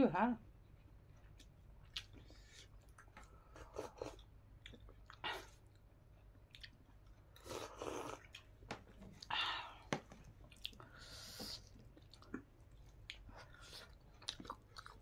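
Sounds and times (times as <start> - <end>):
person chewing: 0.6 - 15.0.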